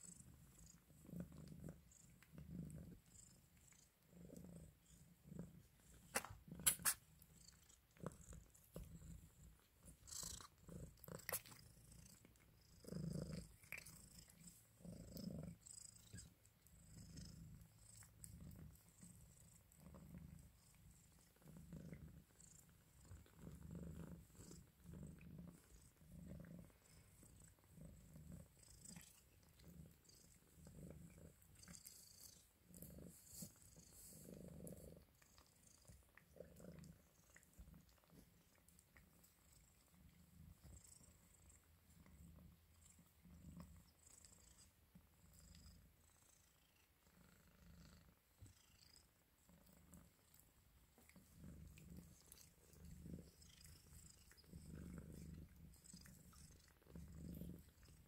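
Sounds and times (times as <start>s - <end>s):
cat purring softly: 0.0s - 58.0s.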